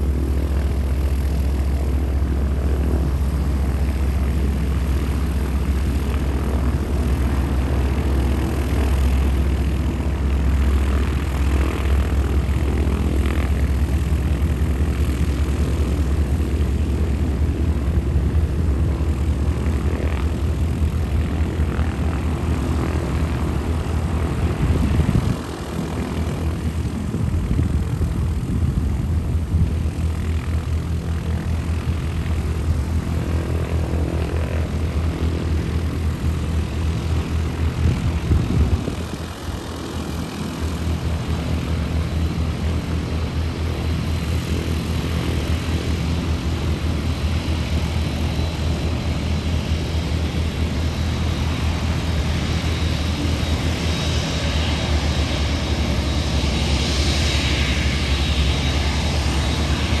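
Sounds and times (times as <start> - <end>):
jet engines whining: 0.0 - 60.0
wind buffeting microphone: 0.1 - 34.1, 34.8 - 60.0.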